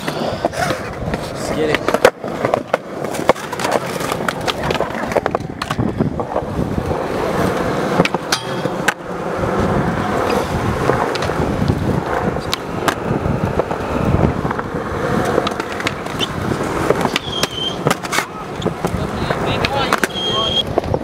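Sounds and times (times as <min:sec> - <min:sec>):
skateboard wheels rolling on concrete: 0:00.0 - 0:21.0
skateboards clacking: 0:00.0 - 0:21.0.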